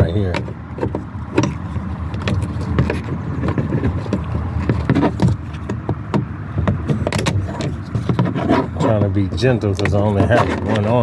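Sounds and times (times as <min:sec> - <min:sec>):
plastic trim clicking and creaking: 0:00.0 - 0:11.0.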